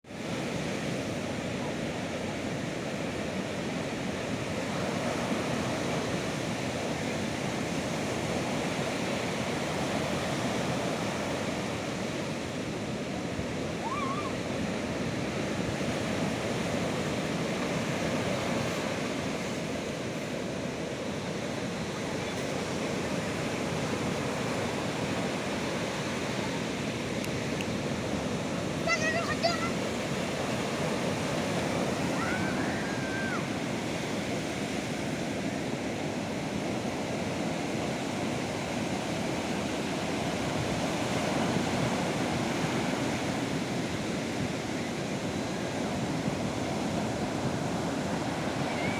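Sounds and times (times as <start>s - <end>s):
sea surf washing: 0.1s - 48.9s.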